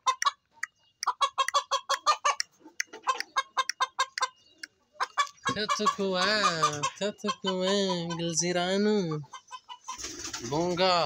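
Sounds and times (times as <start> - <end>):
chicken clucking rapidly: 0.0 - 11.0.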